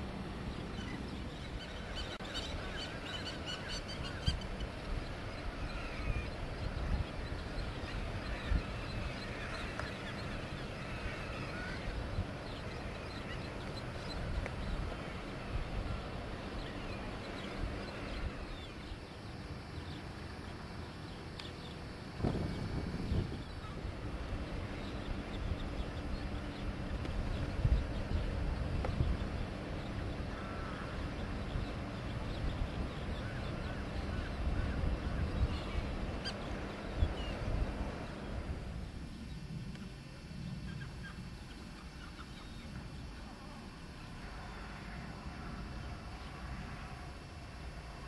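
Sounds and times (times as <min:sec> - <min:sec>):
wind rumble: 0:00.0 - 0:20.9, 0:21.9 - 0:41.4
birds calling: 0:00.4 - 0:40.0, 0:40.6 - 0:46.9.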